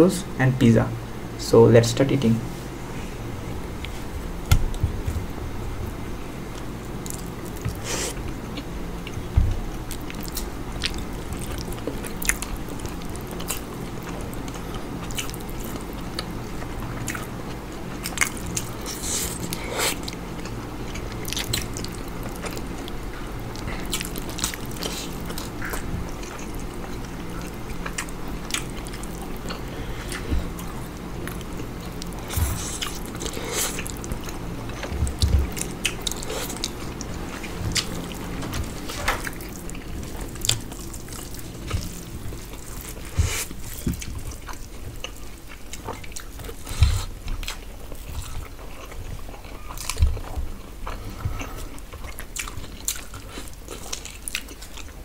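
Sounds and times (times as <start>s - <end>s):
steady low hum: 0.0s - 55.0s
people chewing and smacking: 3.8s - 55.0s.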